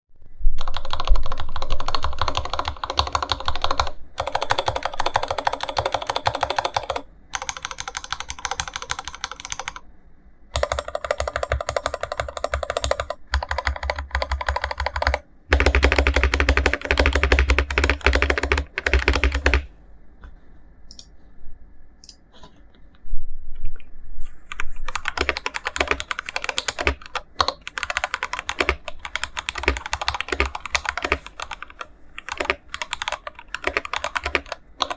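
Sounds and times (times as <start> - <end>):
mechanical keyboard typing: 0.6 - 9.8, 10.6 - 19.7, 24.5 - 34.9.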